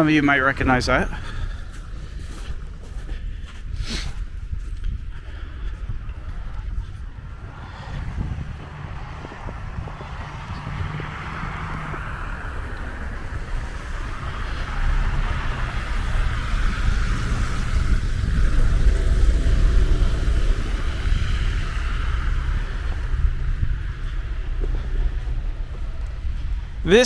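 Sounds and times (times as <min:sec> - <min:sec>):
street traffic passing: 0:00.0 - 0:27.0
wind buffeting microphone: 0:00.0 - 0:27.0.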